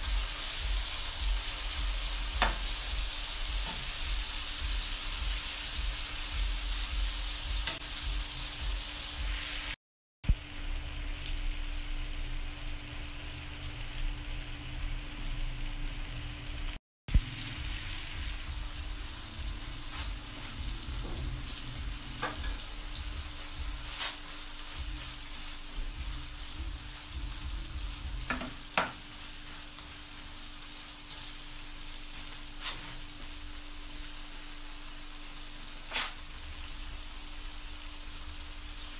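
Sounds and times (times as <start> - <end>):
chicken and vegetables sizzling: 0.0 - 38.9.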